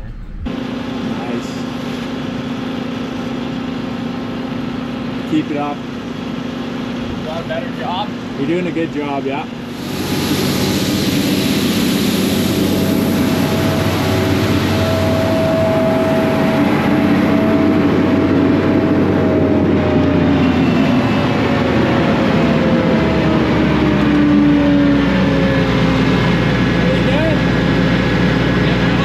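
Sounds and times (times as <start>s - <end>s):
machine whining tones: 0.0s - 1.7s, 7.4s - 29.0s
combine harvester running: 0.0s - 29.0s.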